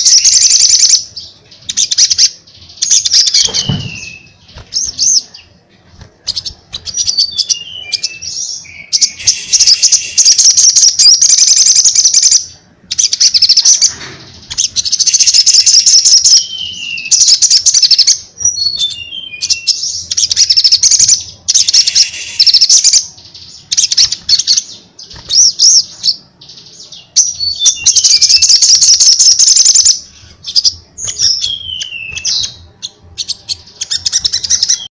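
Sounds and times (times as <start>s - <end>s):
bird singing chattering trills: 0.0s - 34.9s.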